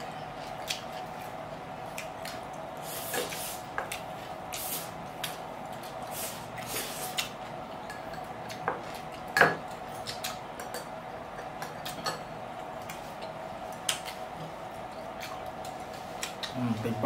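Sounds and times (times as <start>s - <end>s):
chewing: 0.0s - 16.6s
faint steady hum: 0.0s - 17.0s.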